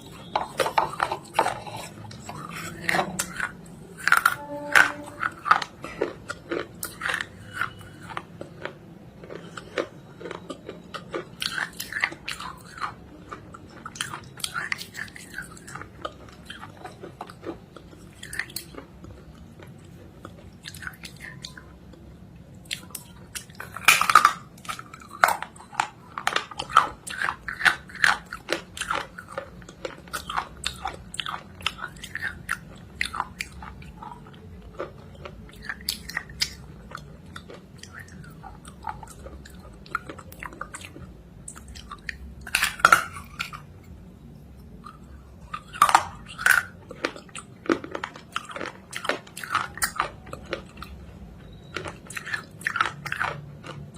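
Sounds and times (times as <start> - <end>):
crunchy chewing: 0.0 - 53.9.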